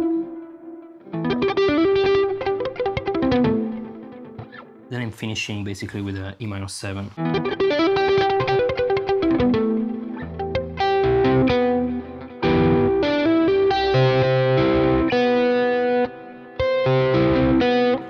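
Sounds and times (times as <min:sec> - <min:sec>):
electric guitar arpeggiated chords: 0:00.0 - 0:04.9, 0:07.2 - 0:18.0.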